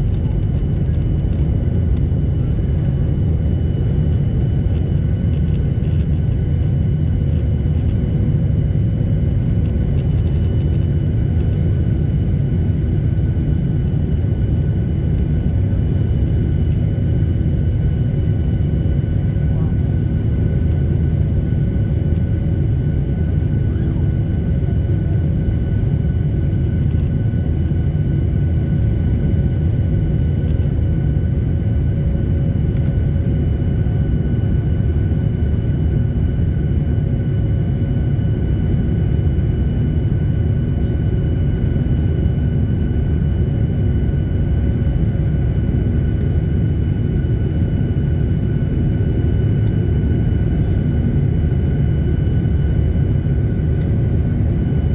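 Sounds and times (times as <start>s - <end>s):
jet engine cabin roar: 0.0s - 54.9s.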